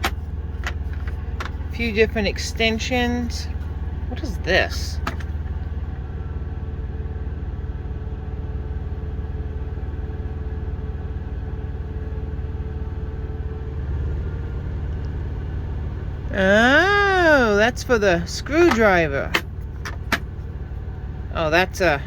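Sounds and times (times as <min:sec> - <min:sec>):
low rumble with faint hum: 0:00.0 - 0:22.0.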